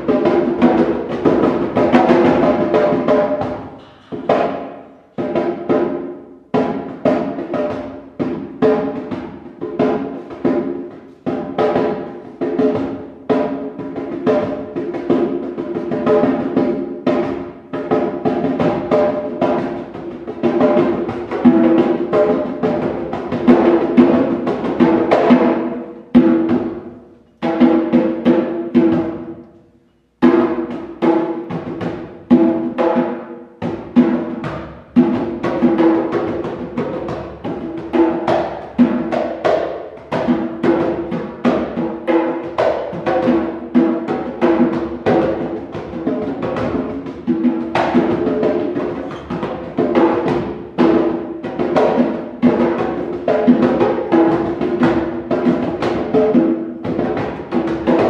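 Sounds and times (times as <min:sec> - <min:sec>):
djembes struck by hand: 0:00.0 - 0:29.5, 0:30.2 - 0:58.0.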